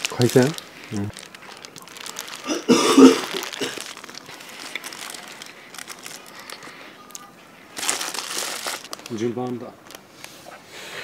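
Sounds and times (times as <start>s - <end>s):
paper wrappers crinkling: 0.0s - 10.4s.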